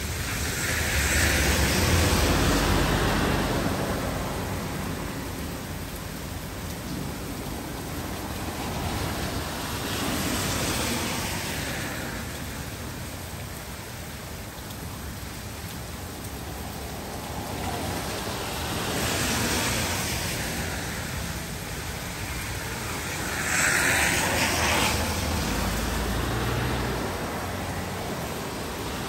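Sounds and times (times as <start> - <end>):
car tyres hissing through water: 0.0 - 14.3, 15.0 - 29.0
heavy rain: 0.0 - 29.0.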